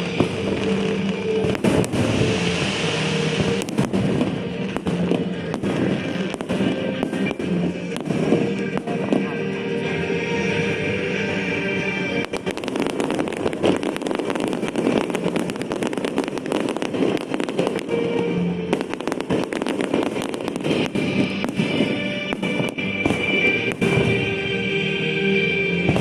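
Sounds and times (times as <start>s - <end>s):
fireworks crackling and popping: 0.0s - 26.0s
music playing: 0.0s - 26.0s.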